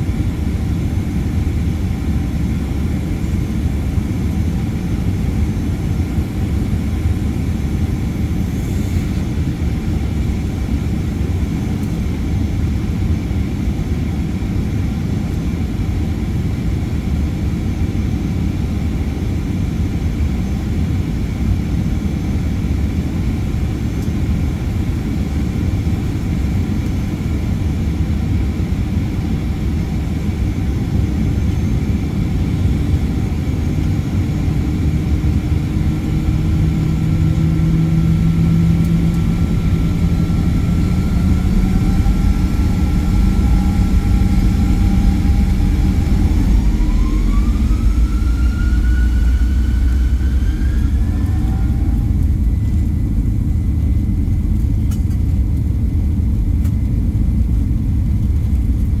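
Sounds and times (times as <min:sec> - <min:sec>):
jet engine cabin rumble: 0:00.0 - 0:59.0
jet engine whine: 0:00.0 - 0:59.0.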